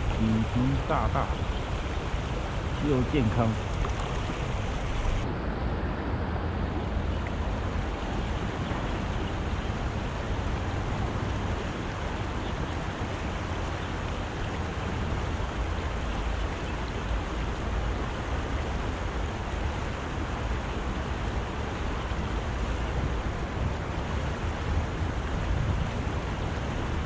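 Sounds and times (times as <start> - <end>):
river rushing over stones: 0.0 - 5.3, 7.0 - 27.0.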